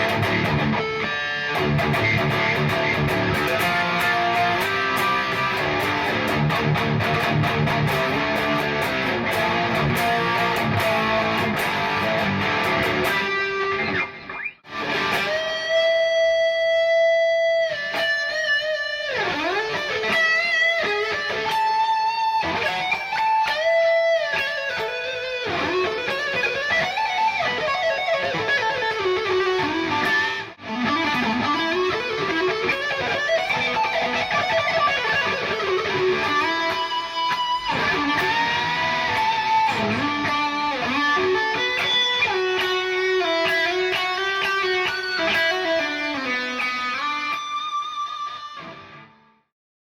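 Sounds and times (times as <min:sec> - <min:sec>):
electric guitar lead: 0:00.0 - 0:49.5.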